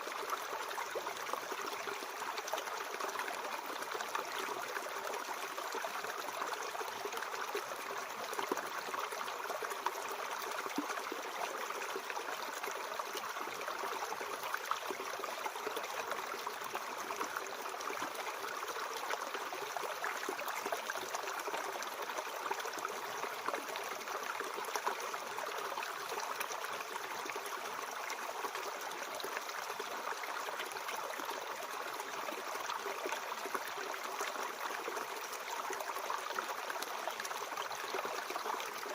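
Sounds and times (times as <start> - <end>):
mountain stream babbling: 0.0 - 38.9.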